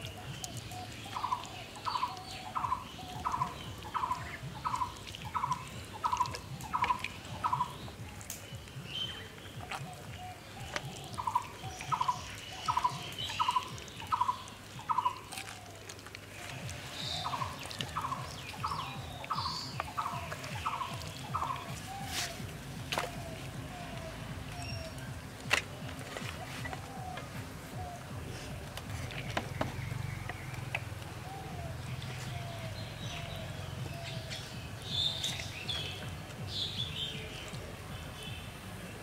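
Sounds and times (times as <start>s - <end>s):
bird calling with rattly notes: 0.0s - 37.6s.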